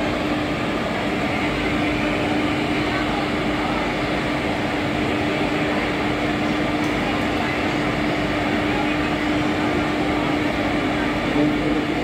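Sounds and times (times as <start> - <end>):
electric locomotive idling: 0.0 - 12.0.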